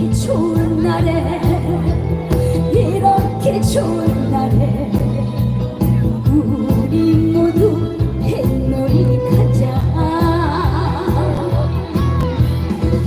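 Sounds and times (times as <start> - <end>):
backing band playing: 0.0 - 13.0.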